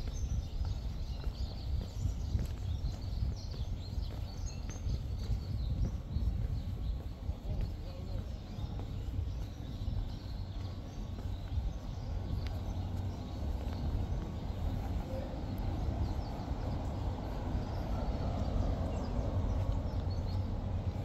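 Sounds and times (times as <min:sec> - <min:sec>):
low street rumble: 0:00.0 - 0:21.0.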